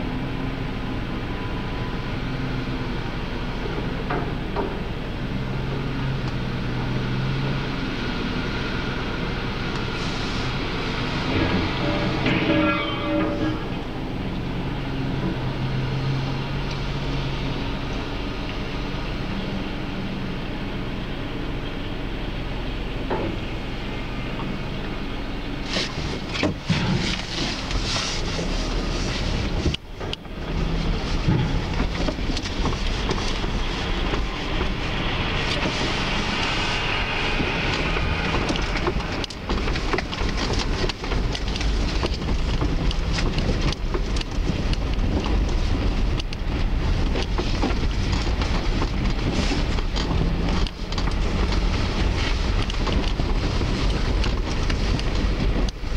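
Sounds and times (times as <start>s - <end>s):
heavy vehicle engine running: 0.0s - 55.9s.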